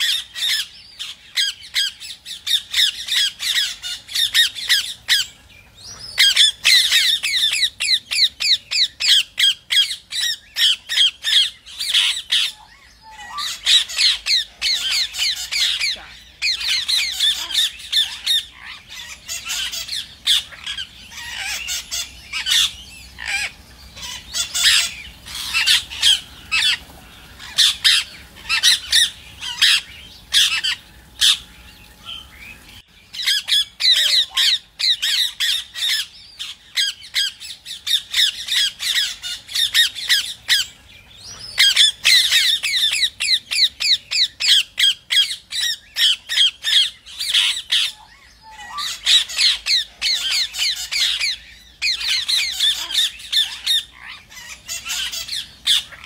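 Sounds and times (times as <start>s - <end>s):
parakeets screeching: 0.0s - 56.0s.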